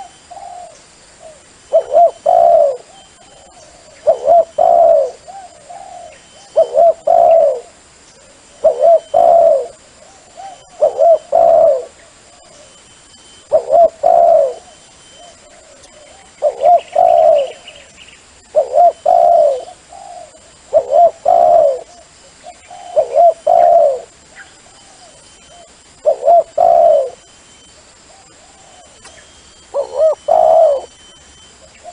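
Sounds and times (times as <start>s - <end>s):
dove cooing: 0.0s - 31.9s.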